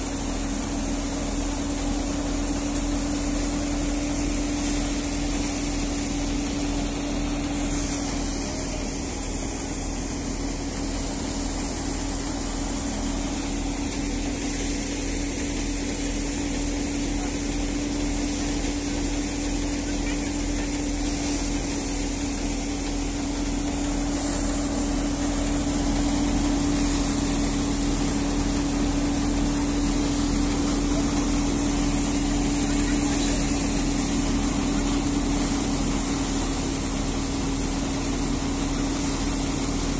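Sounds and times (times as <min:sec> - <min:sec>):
thresher machine drone: 0:00.0 - 0:39.9.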